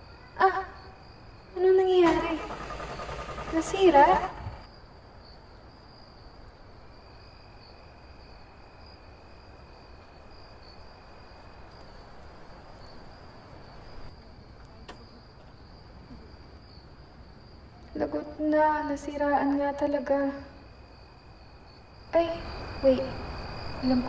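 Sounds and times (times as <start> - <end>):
crickets chirping: 0.0 - 24.0
faint background hiss: 0.0 - 24.0.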